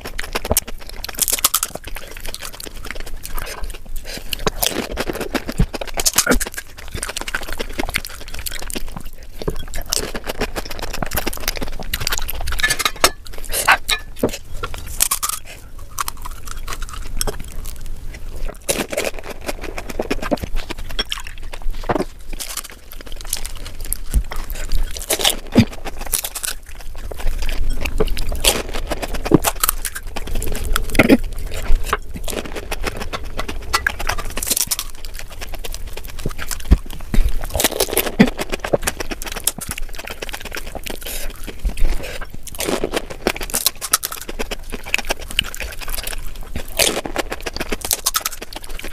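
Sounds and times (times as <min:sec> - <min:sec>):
crisp shells cracking: 0:00.0 - 0:17.8, 0:18.4 - 0:48.9
crunching in the mouth: 0:00.0 - 0:48.9
wet chewing: 0:00.0 - 0:48.9.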